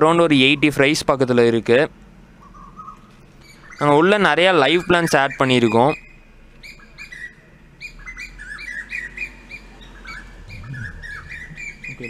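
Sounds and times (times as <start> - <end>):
small birds chirping: 2.0 - 12.0.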